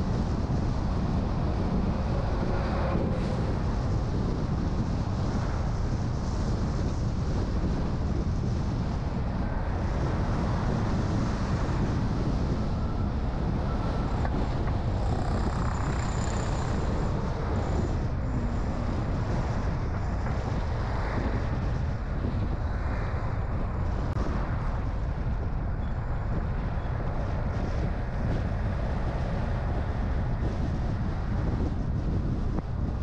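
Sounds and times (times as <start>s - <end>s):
car engine and tyres rumbling: 0.0s - 33.0s
wind noise: 0.0s - 33.0s.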